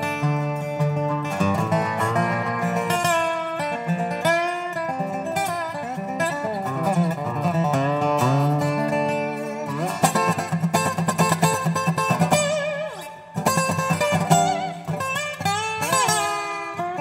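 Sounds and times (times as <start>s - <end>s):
country folk guitar music: 0.0s - 17.0s.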